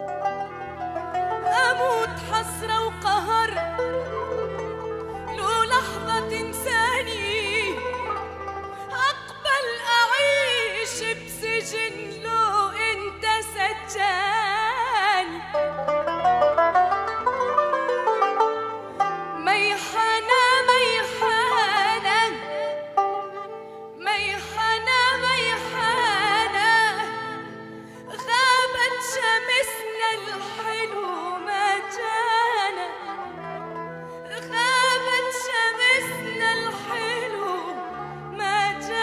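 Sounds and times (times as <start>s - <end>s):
plucked string accompaniment: 0.0s - 39.0s.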